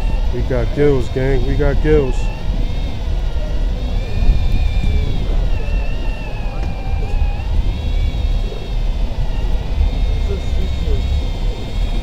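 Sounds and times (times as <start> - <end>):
boat engine rumble: 0.0 - 12.0
fishing reel motor whining: 0.0 - 12.0
wind: 0.0 - 12.0.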